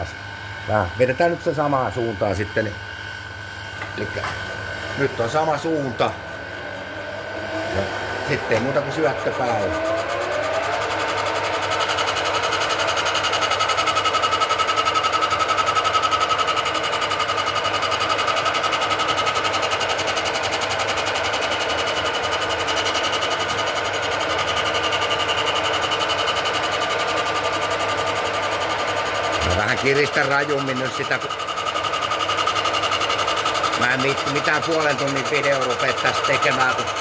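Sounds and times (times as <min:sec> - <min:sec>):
grinder motor whine: 0:00.0 - 0:37.0.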